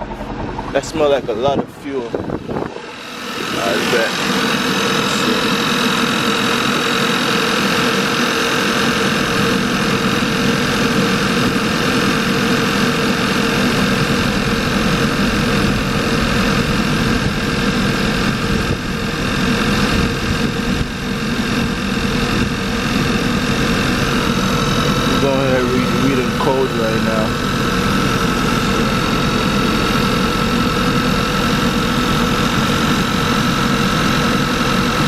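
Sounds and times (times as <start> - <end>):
car engine idling and misfiring: 0.0 - 35.0.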